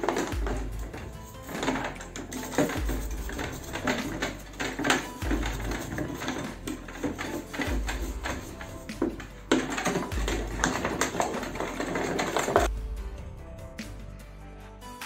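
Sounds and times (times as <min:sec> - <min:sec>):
brush scrubbing mess kit: 0:00.0 - 0:12.7
metal clinks and knocks: 0:00.0 - 0:12.7
background music: 0:00.0 - 0:15.0.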